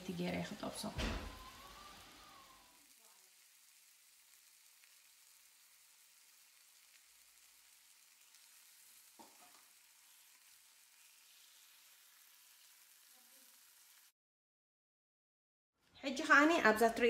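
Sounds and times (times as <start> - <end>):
chicken sizzling in oil: 0.0 - 14.2.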